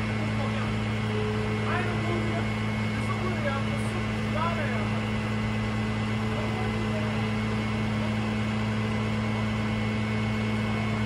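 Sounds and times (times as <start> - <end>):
truck engine low drone: 0.0 - 11.0.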